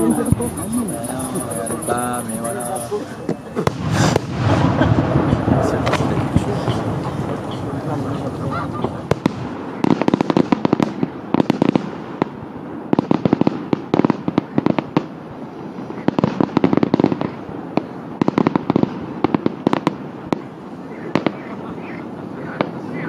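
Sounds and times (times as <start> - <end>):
fireworks bursting with crackles: 0.0 - 23.0.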